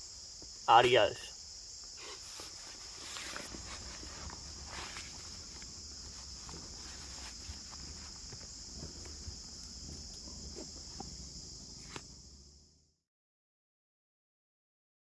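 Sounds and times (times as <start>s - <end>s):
insects chirping chorus: 0.0s - 13.0s.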